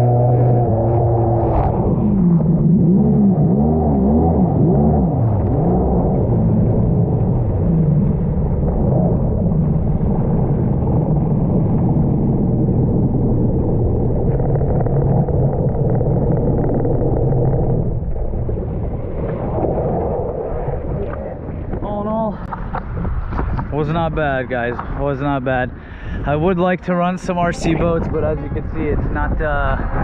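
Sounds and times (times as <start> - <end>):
jet ski engine rumble: 0.0 - 30.0
water noise: 0.0 - 30.0
wind noise: 0.0 - 30.0.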